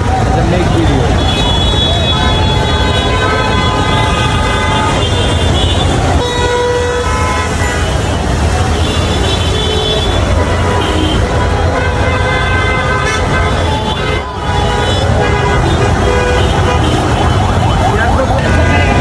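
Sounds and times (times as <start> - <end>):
road traffic rumble: 0.0 - 19.0
vehicle horns sounding: 0.0 - 19.0.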